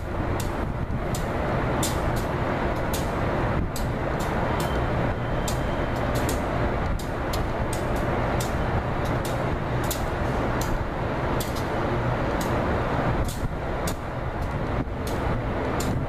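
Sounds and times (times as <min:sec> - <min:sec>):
diesel locomotive engine rumble: 0:00.0 - 0:16.0
wheels clicking over rail joints: 0:00.0 - 0:16.0.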